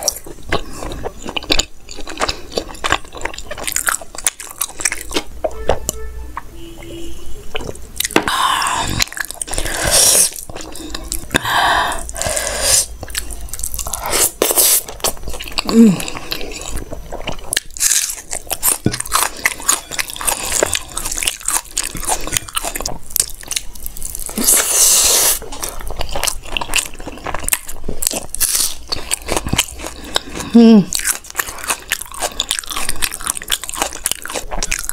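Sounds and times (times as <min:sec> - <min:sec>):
wet chewing and squishing: 0:00.0 - 0:05.9, 0:07.5 - 0:34.9.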